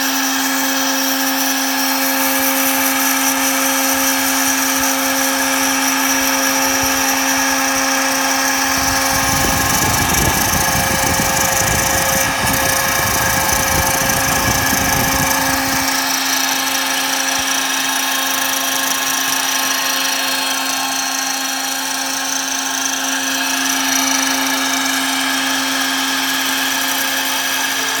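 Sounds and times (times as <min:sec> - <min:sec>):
router spindle cutting plexiglass: 0:00.0 - 0:28.0.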